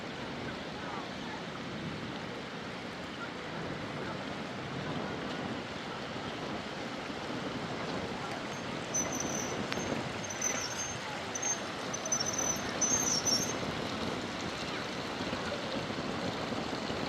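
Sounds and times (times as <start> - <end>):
storm water rushing: 0.0 - 17.0.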